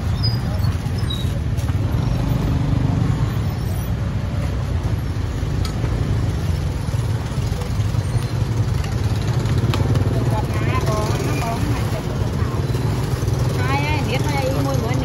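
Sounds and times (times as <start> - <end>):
road traffic rumbling: 0.0 - 15.0.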